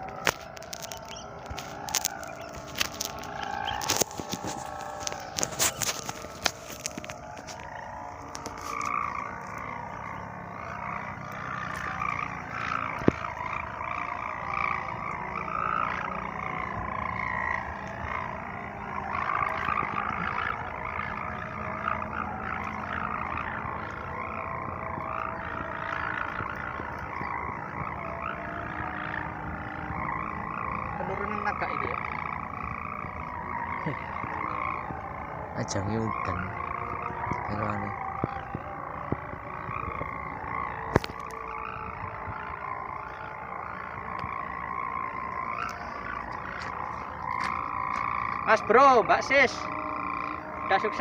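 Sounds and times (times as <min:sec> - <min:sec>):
kite hummer droning: 0:00.0 - 0:51.0
low wind rumble: 0:00.0 - 0:51.0.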